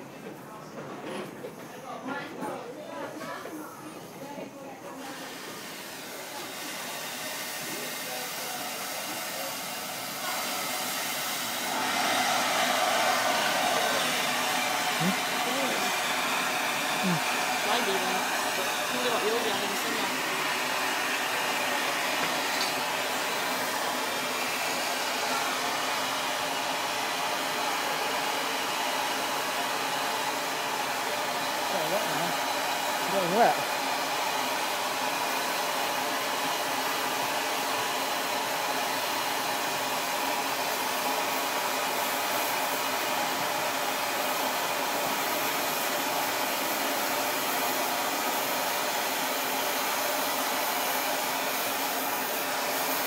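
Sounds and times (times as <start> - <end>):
steam hissing: 4.9 - 53.0.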